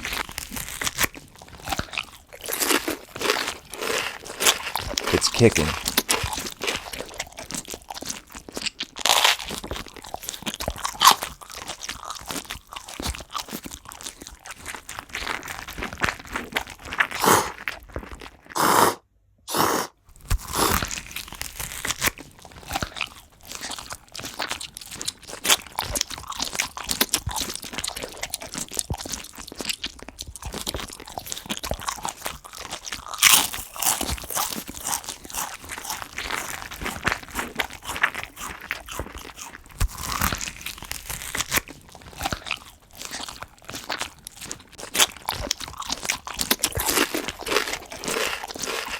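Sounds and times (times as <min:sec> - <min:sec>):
insect chewing with crunching clicks: 0:00.0 - 0:18.6, 0:20.1 - 0:48.9.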